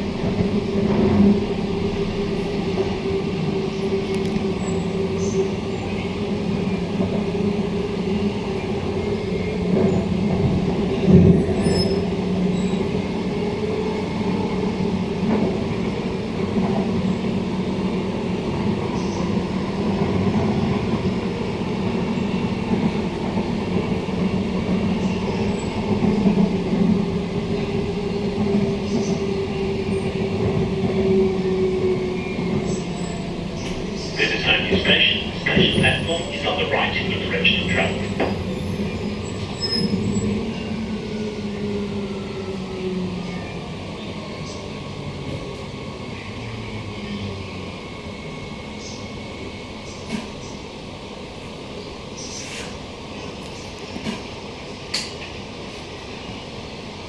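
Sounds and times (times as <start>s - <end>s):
train running rumble and hum: 0.0s - 57.0s.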